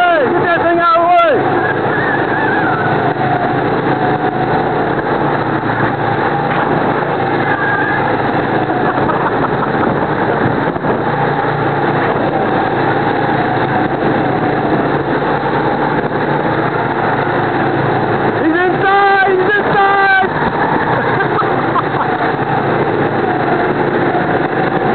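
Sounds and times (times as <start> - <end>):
go-kart engines racing: 0.0 - 24.9.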